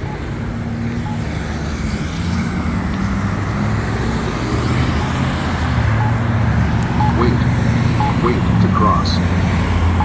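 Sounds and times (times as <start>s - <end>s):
car engines rumbling: 0.0s - 10.0s
tyres on road: 0.0s - 10.0s.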